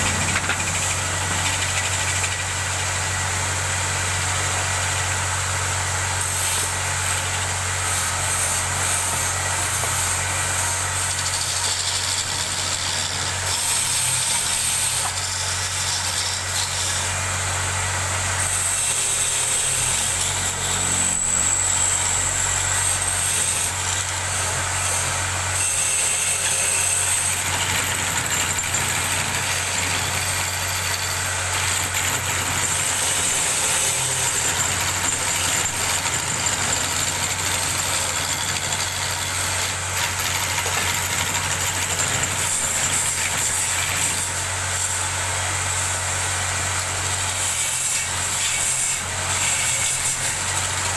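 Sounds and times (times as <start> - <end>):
wood lathe humming: 0.0 - 50.9.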